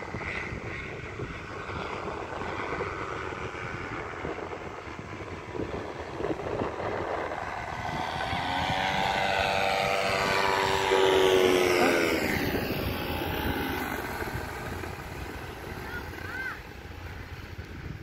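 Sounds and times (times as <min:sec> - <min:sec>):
paramotor engine and propeller droning: 0:00.0 - 0:18.0.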